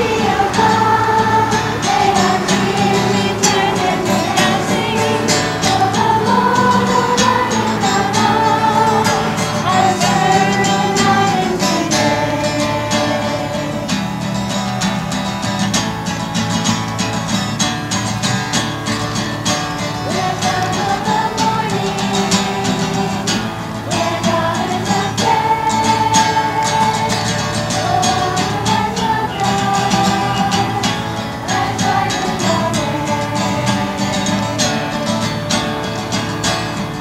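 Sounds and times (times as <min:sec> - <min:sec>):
children's choir singing: 0:00.0 - 0:16.1, 0:18.0 - 0:37.0
strummed acoustic guitar: 0:00.0 - 0:37.0.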